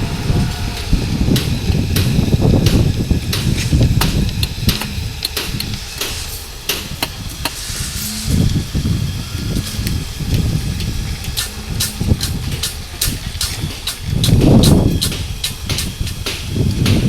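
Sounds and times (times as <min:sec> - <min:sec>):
low rumble: 0:00.0 - 0:06.0, 0:06.8 - 0:17.0
hammer blows: 0:00.0 - 0:17.0.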